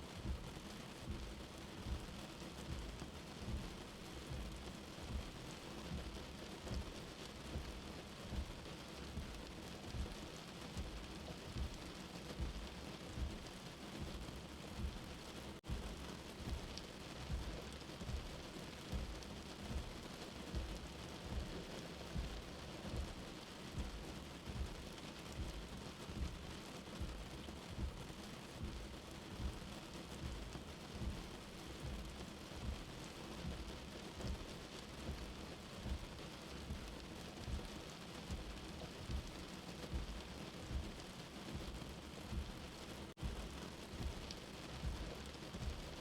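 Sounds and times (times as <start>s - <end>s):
steady rain: 0.0s - 46.0s
low heartbeat thumping: 0.2s - 46.0s.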